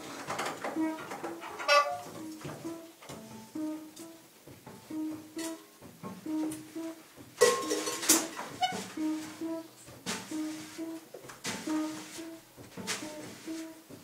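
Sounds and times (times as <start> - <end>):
free jazz quartet improvising: 0.0 - 14.0
drum and cymbal strikes: 2.2 - 13.7.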